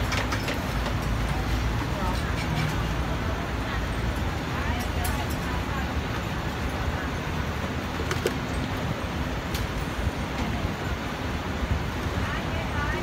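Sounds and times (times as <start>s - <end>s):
busy food stall background noise: 0.0s - 13.0s.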